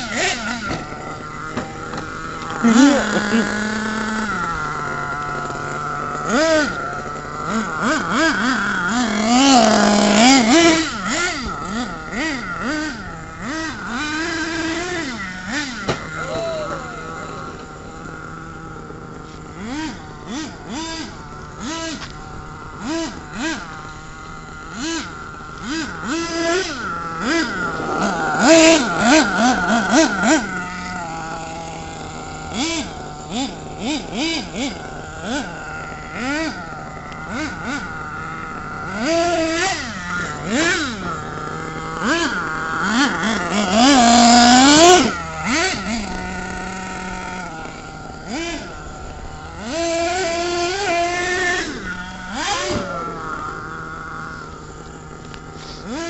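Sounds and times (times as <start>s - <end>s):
toy car motor revving: 0.0s - 56.0s.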